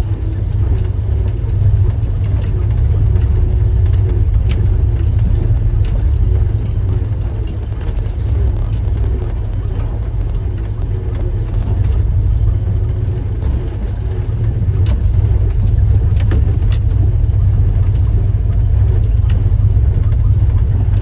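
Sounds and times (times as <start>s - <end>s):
clinks and rattles: 0.0s - 21.0s
vehicle engine rumble: 0.0s - 21.0s.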